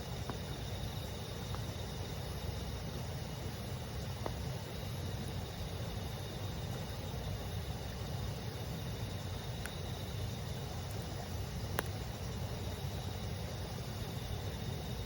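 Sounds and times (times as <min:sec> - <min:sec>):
campfire crackling: 0:00.0 - 0:15.0
insects chirping: 0:00.0 - 0:15.0.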